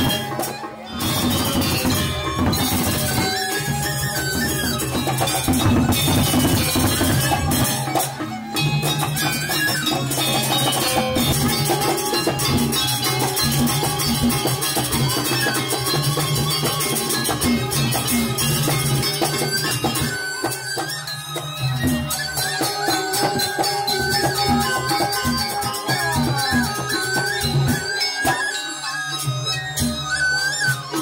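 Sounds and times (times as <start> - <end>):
gamelan music: 0.0 - 31.0.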